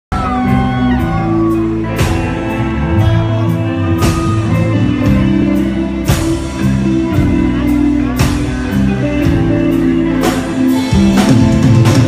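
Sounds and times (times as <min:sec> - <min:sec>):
rock band playing: 0:00.1 - 0:12.0.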